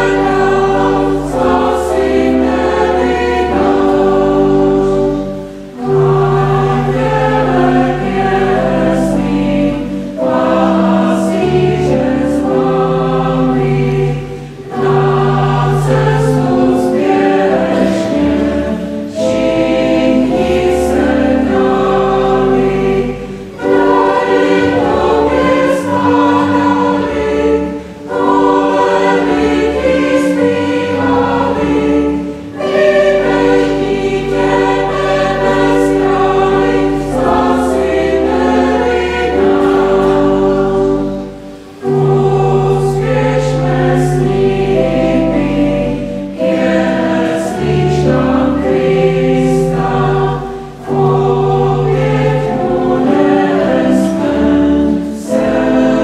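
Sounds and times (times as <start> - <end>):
mixed choir singing a hymn: 0.0 - 56.0.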